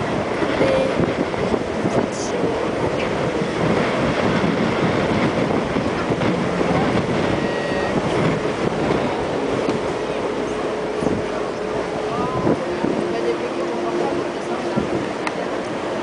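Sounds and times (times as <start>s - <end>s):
ferry engines rumbling: 0.0s - 16.0s
water rushing past hulls: 0.0s - 16.0s.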